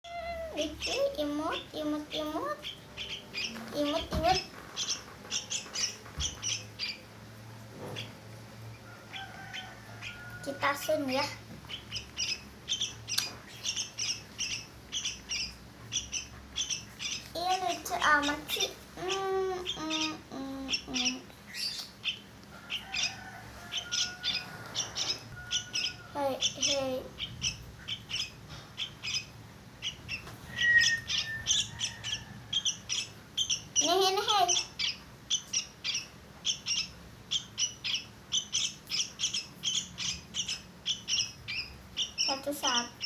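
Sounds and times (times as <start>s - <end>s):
fledgling birds cheeping: 0.0s - 43.0s.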